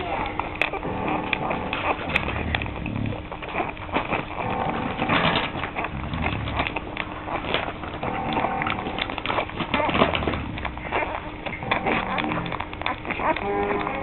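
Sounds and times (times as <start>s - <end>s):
puppies grunting and squeaking: 0.0s - 14.0s
puppies suckling clicks: 0.0s - 14.0s.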